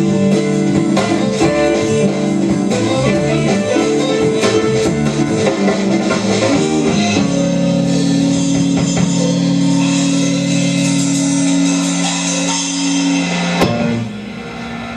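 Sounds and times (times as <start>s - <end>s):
rock band held chord: 0.0s - 14.9s.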